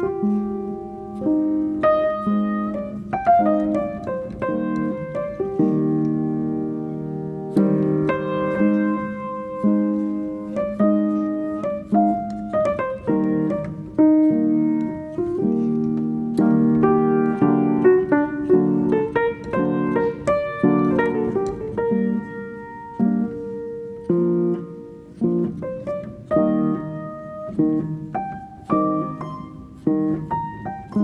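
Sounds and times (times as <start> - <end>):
solo piano music: 0.0 - 31.0.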